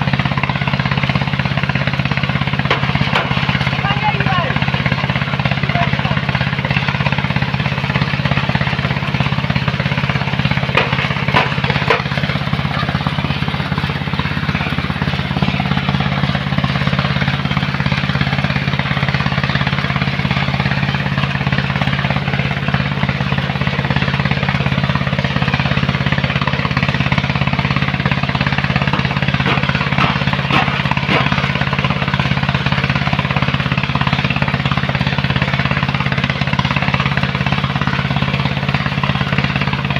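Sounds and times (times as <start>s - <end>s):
heavy machinery engine hum: 0.0s - 39.9s.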